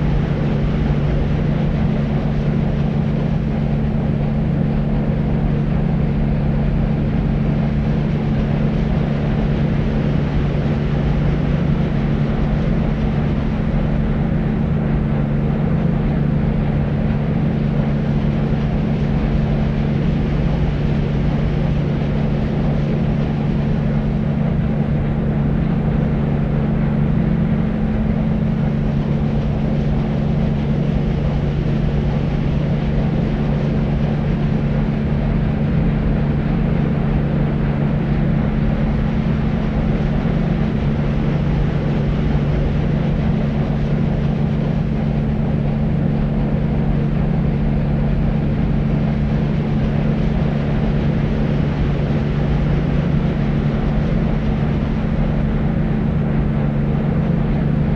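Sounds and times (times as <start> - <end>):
constant low hum: 0.0 - 57.9.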